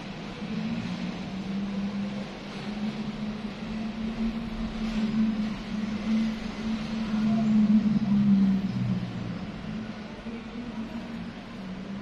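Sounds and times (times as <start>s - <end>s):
even background noise: 0.0s - 12.0s
low mechanical hum: 0.0s - 12.0s.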